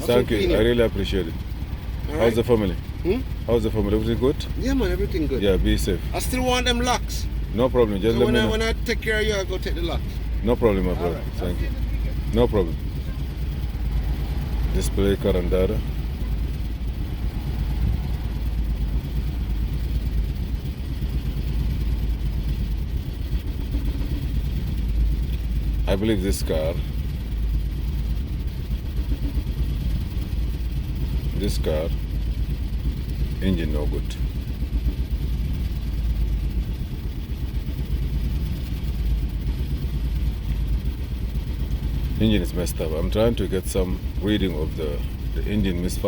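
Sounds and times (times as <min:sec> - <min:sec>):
engine running with misfire: 0:00.0 - 0:46.0.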